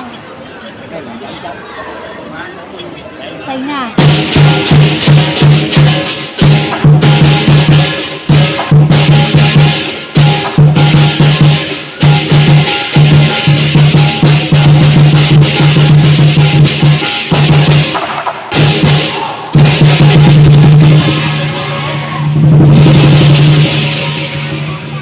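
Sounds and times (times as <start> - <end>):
cymbals clashing: 4.0 - 25.0
large drum beating: 4.0 - 25.0.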